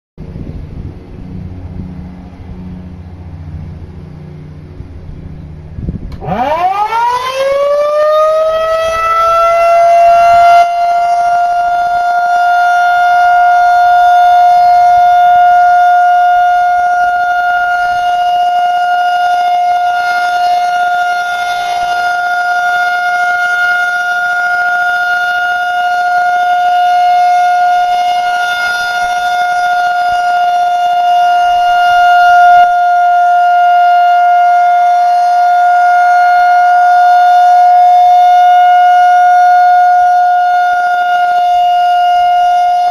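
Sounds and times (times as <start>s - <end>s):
warning siren steady tone: 0.2s - 42.9s.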